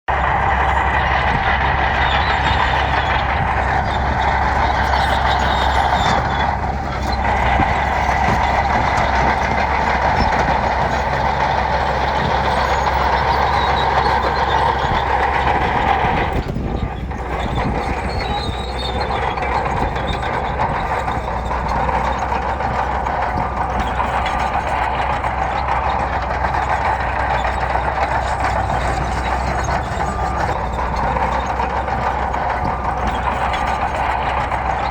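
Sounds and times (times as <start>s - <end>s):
bulldozer diesel engine: 0.0s - 34.9s.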